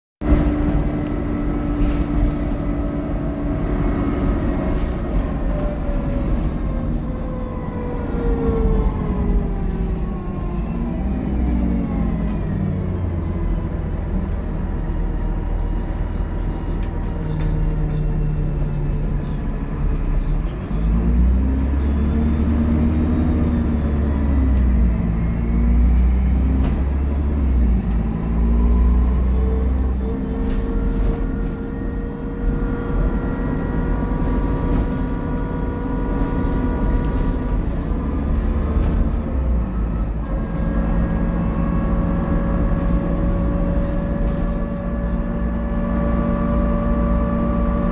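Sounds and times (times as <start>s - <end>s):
bus diesel engine revving: 0.2s - 47.9s
drivetrain whine: 0.2s - 47.9s.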